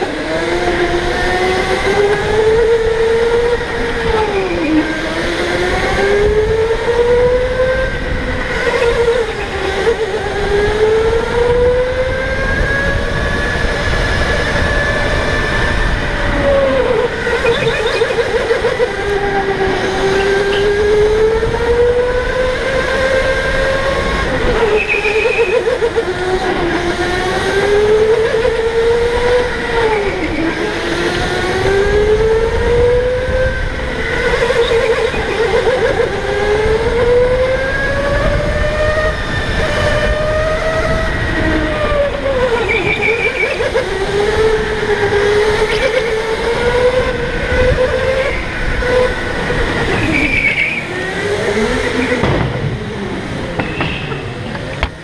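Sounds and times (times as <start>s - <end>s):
electric go-kart motor whining: 0.0s - 55.0s.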